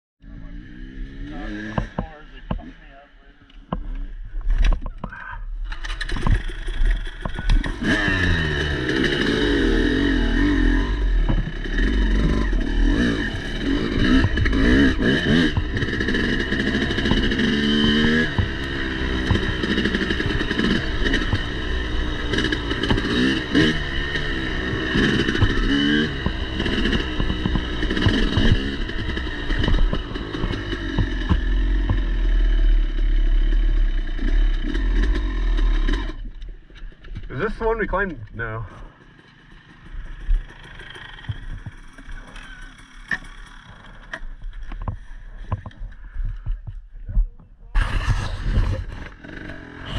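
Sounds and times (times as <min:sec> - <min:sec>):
motorcycle engine revving: 0:00.2 - 0:49.9.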